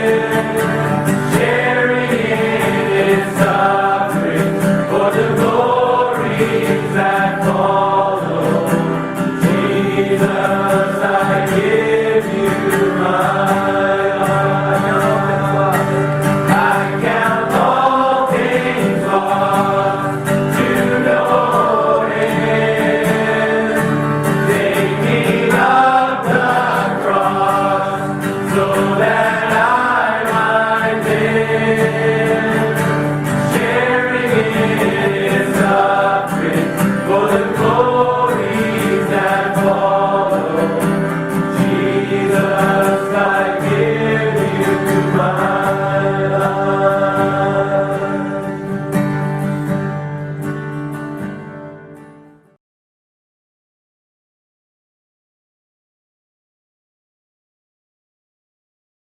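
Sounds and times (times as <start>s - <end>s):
gospel choir singing: 0.0s - 49.6s.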